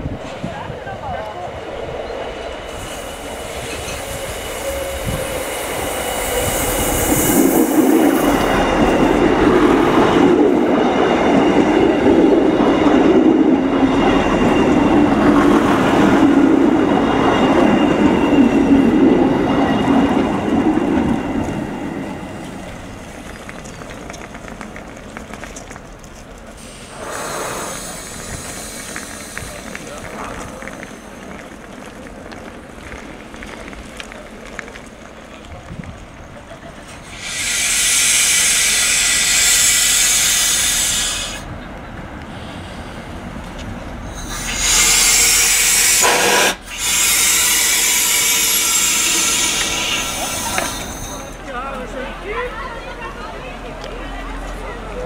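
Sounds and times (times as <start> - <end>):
diesel train engines: 0.0 - 55.0
train wheels on rails: 0.0 - 55.0.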